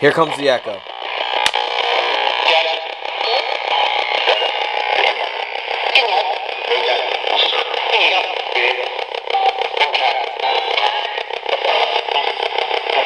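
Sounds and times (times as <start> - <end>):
chopped broadcast voice and music: 0.0 - 13.0
radio scanning through stations: 0.0 - 13.0
radio static: 0.0 - 13.0.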